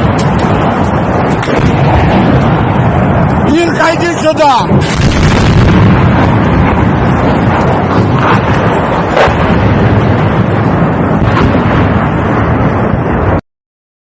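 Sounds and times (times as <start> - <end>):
sharp cracks: 0.0 - 13.1
artillery fire and explosions: 0.0 - 13.4.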